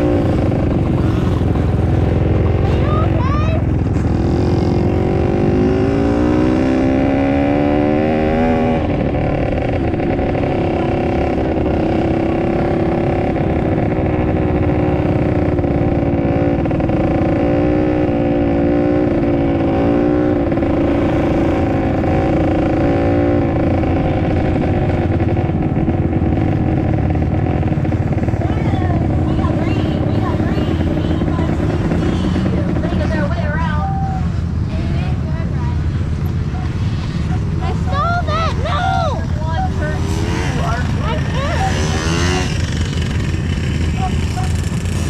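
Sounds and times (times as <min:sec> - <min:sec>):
dirt bike engine revving: 0:00.0 - 0:33.8, 0:36.7 - 0:45.0.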